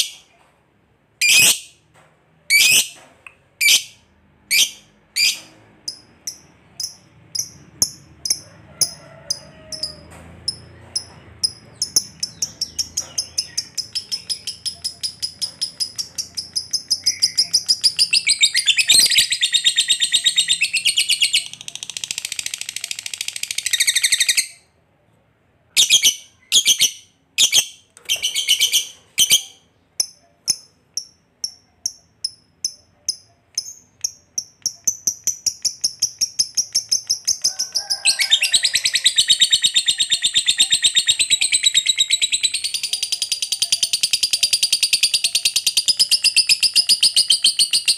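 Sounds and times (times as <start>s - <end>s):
lovebird chirping and trilling: 1.2s - 1.7s, 2.5s - 3.0s, 3.6s - 24.6s, 25.8s - 47.9s.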